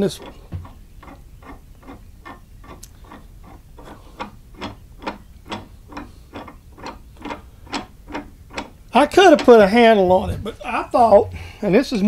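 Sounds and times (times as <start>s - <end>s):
vise screw clicking: 0.0s - 9.8s.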